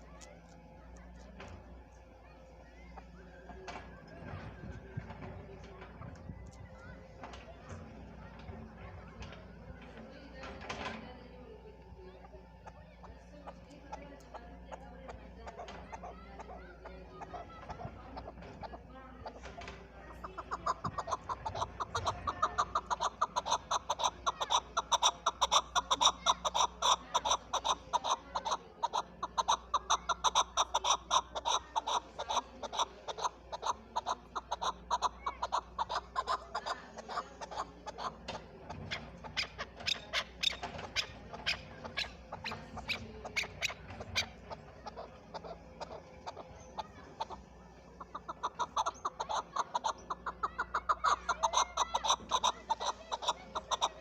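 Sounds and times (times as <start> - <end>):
partridge calling rapidly: 2.2 - 54.0.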